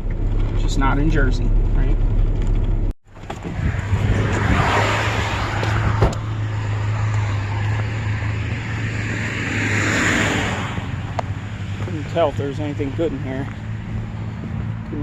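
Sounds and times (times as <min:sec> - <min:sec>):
road noise: 0:00.0 - 0:15.0
truck engine hum: 0:00.0 - 0:15.0.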